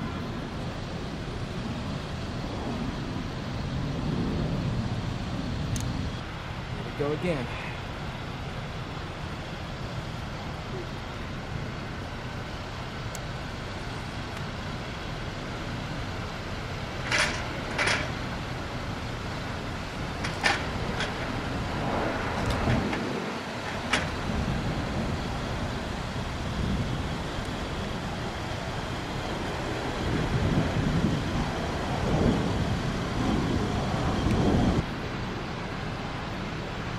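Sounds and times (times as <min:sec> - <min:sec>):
vehicle rumble: 0:00.0 - 0:36.9.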